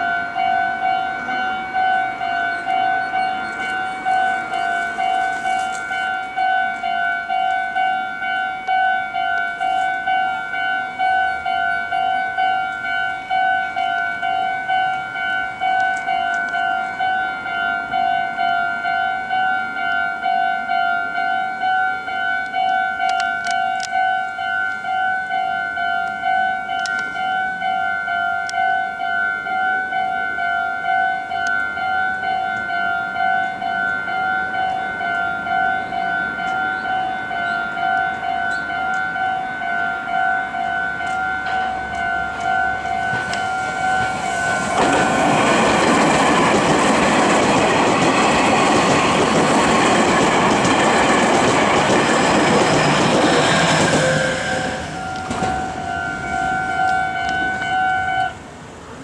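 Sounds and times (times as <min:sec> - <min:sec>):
level crossing warning bell: 0:00.0 - 0:59.0
train wheels on rails: 0:00.0 - 0:59.0.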